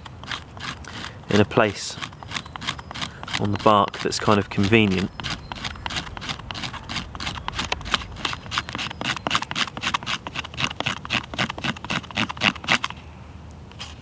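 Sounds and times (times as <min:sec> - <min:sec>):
knife scraping bark: 0:00.0 - 0:12.9.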